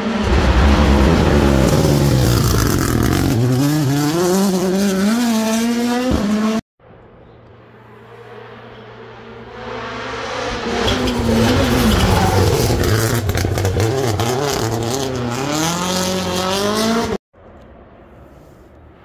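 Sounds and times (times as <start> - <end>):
rally car engine accelerating: 0.0 - 6.6, 8.3 - 17.2.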